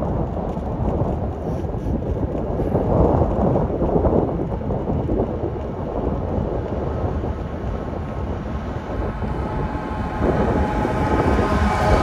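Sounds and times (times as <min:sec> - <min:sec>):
diesel locomotives approaching: 0:00.0 - 0:12.0
wind buffeting microphone: 0:00.0 - 0:12.0.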